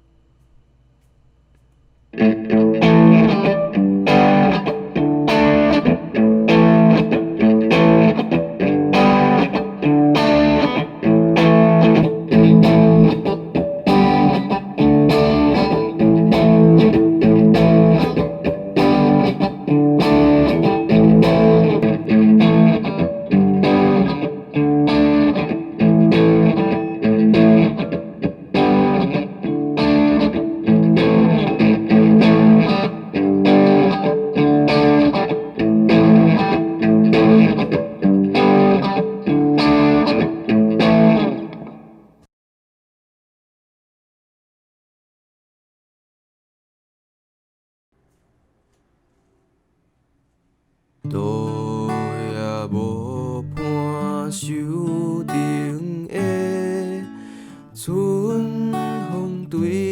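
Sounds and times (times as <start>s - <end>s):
electric guitar strumming chords: 2.1s - 42.2s, 51.0s - 59.9s.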